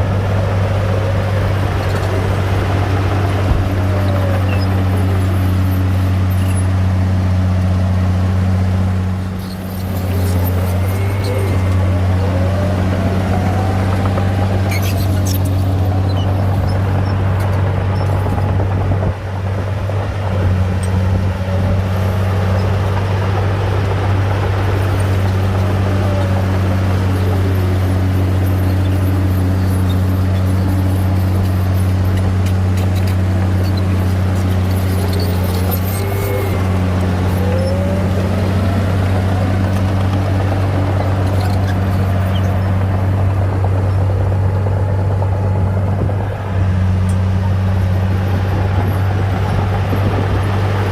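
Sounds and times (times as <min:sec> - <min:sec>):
heavy diesel engine droning: 0:00.0 - 0:50.9.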